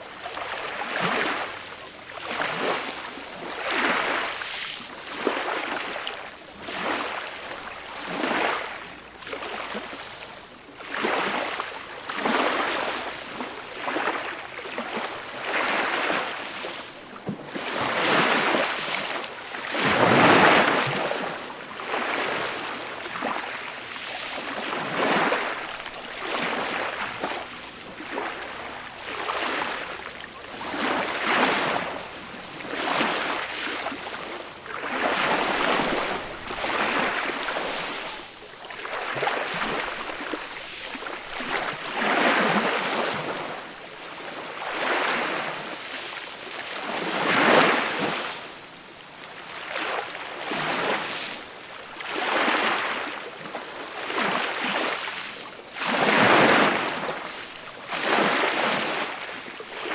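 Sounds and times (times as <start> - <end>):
small waves breaking on shore: 0.0 - 59.9.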